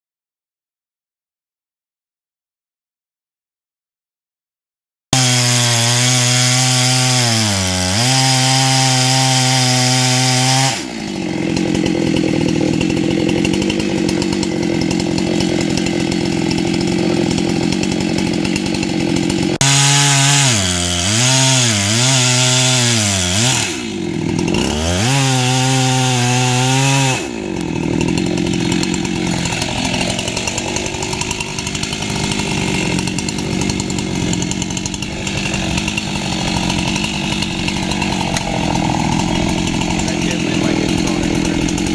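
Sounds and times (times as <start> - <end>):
chainsaw revving and cutting wood: 5.1 - 41.9.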